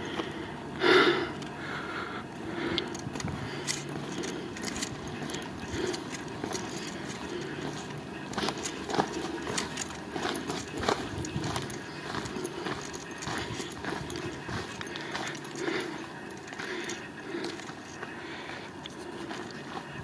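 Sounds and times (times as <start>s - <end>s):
footsteps on gravel: 2.4s - 20.0s.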